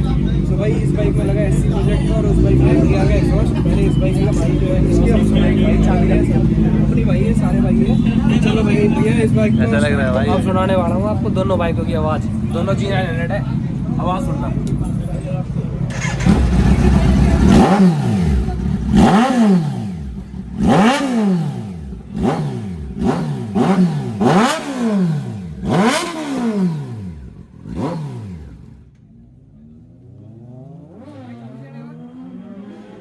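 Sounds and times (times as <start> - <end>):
motorcycle engine revving: 0.0 - 13.7, 15.9 - 33.0
motorcycle engine idling: 0.0 - 30.0.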